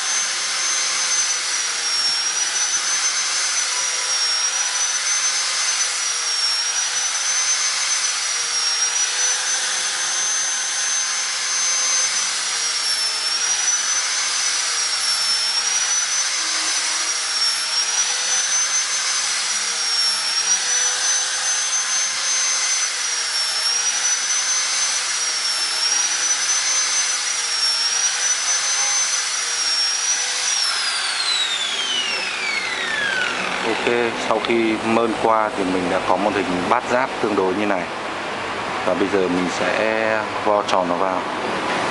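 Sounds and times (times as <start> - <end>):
electric power tool whining: 0.0 - 37.7.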